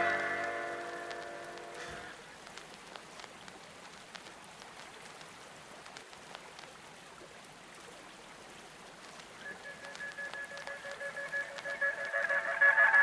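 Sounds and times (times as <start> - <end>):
small clicks and crackles: 0.0 - 13.0.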